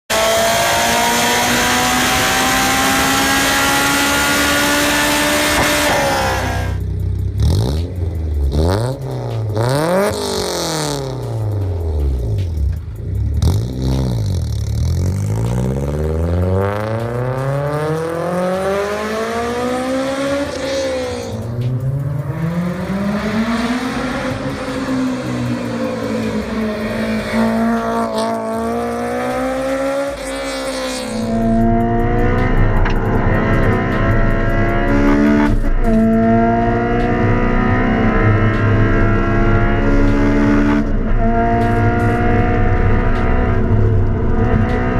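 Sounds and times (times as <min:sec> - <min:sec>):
car engine revving: 0:00.1 - 0:44.9.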